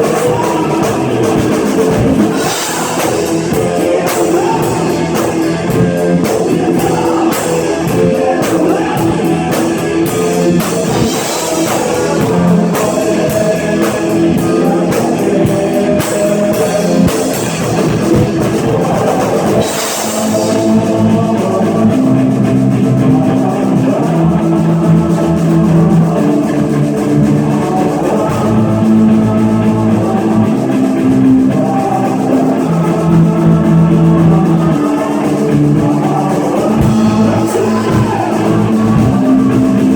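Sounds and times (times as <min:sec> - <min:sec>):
electric guitar: 0:00.0 - 0:39.9
rock band playing live: 0:00.0 - 0:39.9.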